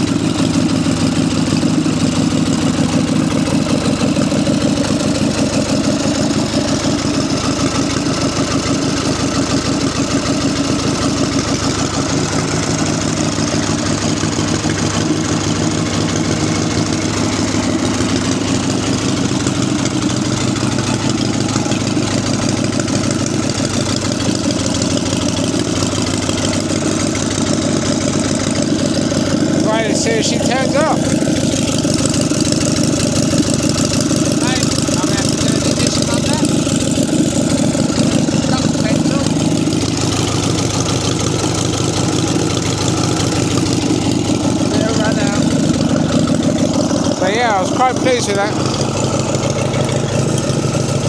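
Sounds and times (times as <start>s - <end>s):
stationary engine running: 0.0s - 51.0s.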